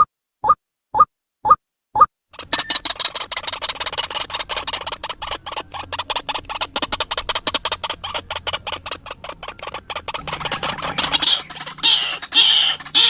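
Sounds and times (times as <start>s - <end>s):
waterhen harsh croaking calls: 2.4s - 13.0s.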